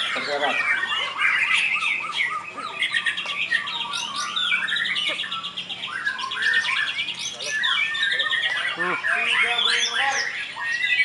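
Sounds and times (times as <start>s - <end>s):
birds singing whistles and trills: 0.0s - 11.0s.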